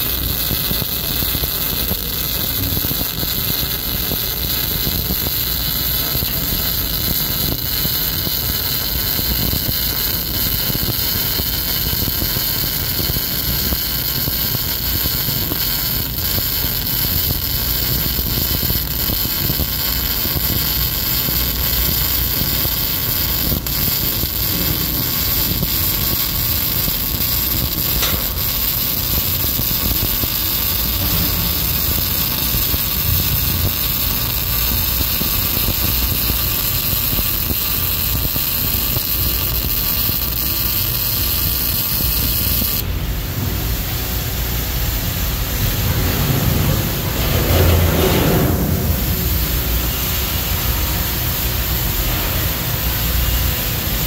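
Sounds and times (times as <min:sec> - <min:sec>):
low machine drone: 0:00.0 - 0:54.0
welding arc on steel: 0:00.0 - 0:54.0.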